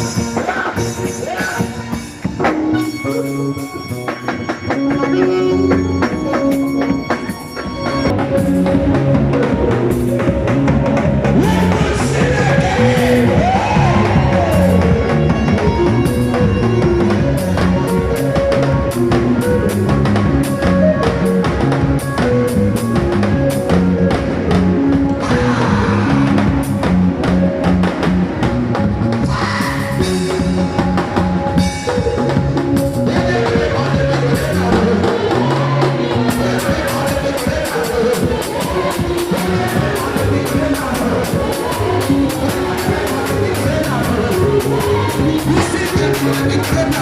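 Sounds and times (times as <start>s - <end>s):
bass: 0.0s - 47.0s
drum kit steady beat: 0.0s - 47.0s
pitched instruments: 0.0s - 47.0s.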